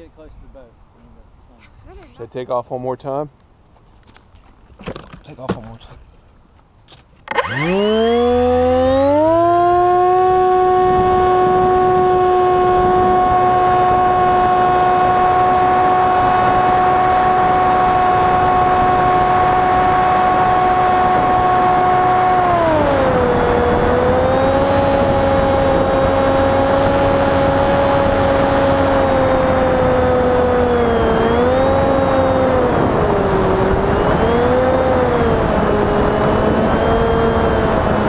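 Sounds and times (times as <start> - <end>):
model plane motor whining: 7.3 - 38.0.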